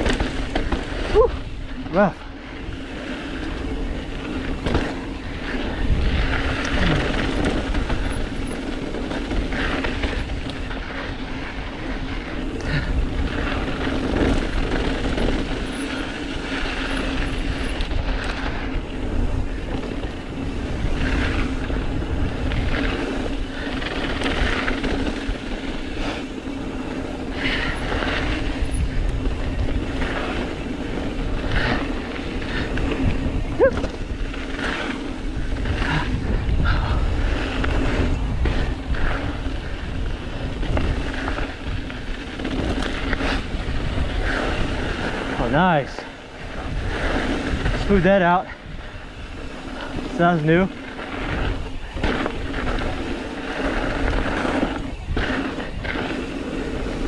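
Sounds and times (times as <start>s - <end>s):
bike rattling over bumps: 0.0s - 57.0s
bike tyres crunching over gravel: 0.0s - 57.0s
wind buffeting microphone: 0.0s - 57.0s.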